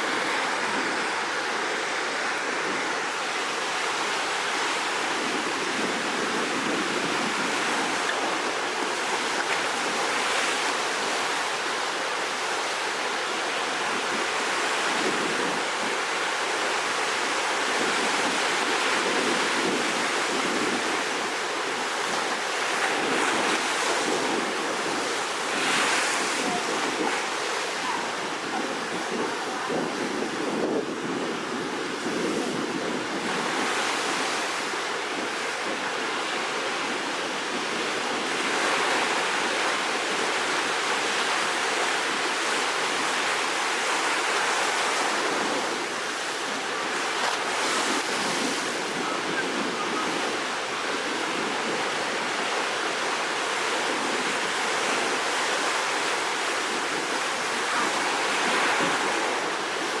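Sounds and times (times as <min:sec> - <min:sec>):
rough sea surf breaking waves: 0:00.0 - 1:00.0.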